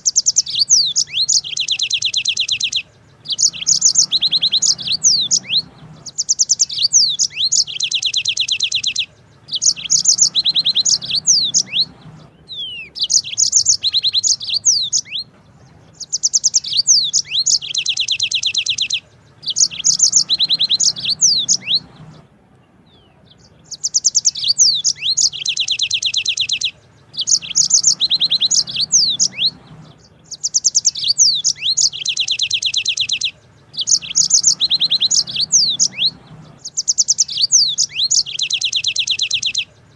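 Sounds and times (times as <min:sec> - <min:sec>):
canary singing trills and whistles: 0:00.0 - 0:39.9.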